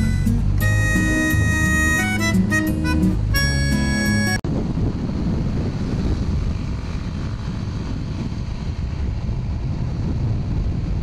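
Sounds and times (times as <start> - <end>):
motorcycle engine and road rumble: 0.0 - 11.0
wind buffeting microphone: 0.0 - 11.0.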